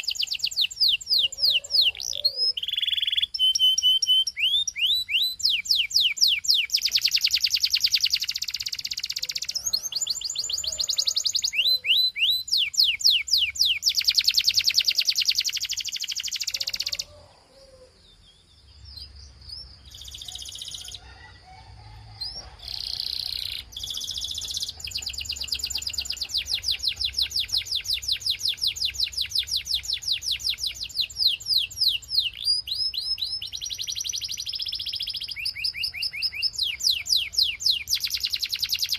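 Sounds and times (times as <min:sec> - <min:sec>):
canary singing in trills: 0:00.0 - 0:38.9.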